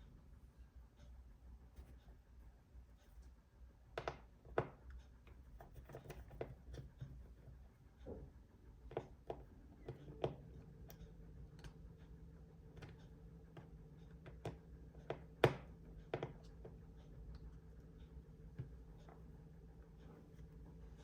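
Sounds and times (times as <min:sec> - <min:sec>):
faint steady hum: 0:00.0 - 0:21.0
light clicks and taps: 0:01.0 - 0:21.0.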